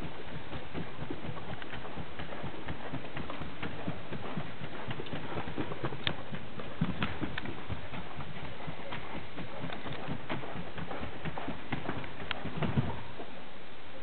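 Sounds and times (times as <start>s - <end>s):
horse hoofbeats on dirt: 0.0s - 13.4s.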